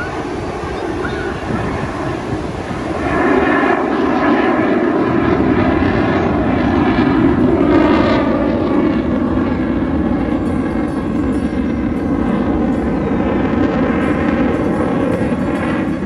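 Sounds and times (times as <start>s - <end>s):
fighter jet flying past: 0.0s - 16.0s.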